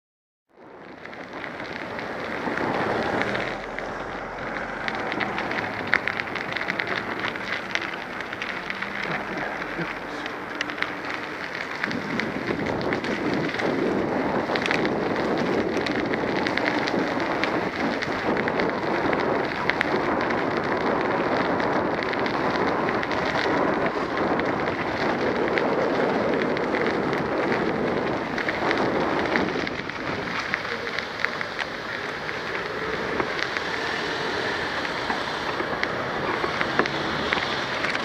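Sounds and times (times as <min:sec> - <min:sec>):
tyres rushing on asphalt: 0:00.5 - 0:38.0
wind: 0:00.5 - 0:38.0
bike rattles: 0:00.6 - 0:38.0.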